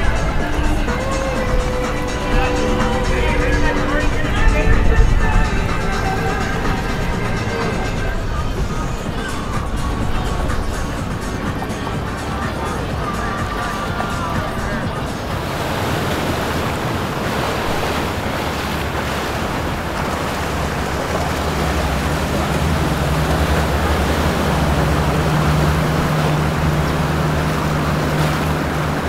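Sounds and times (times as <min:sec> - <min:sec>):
boat motor drone: 0:00.0 - 0:29.0
water rushing: 0:00.0 - 0:29.0
wind noise on microphone: 0:00.0 - 0:29.0.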